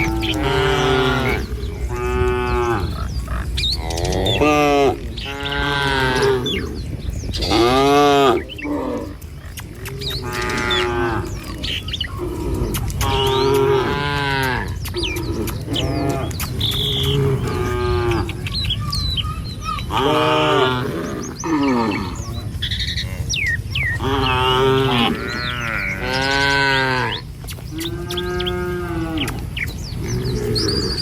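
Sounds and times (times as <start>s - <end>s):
cows mooing: 0.0s - 31.0s
small birds chirping: 0.0s - 31.0s.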